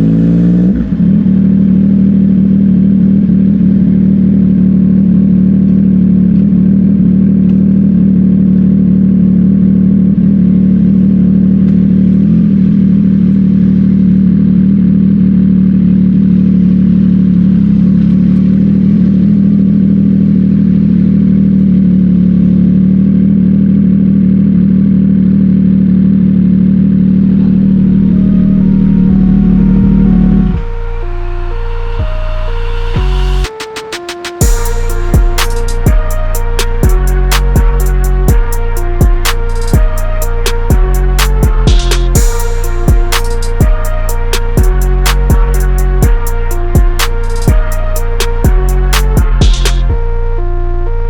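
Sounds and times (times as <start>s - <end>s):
motorcycle engine running: 0.0s - 33.6s, 34.4s - 50.1s.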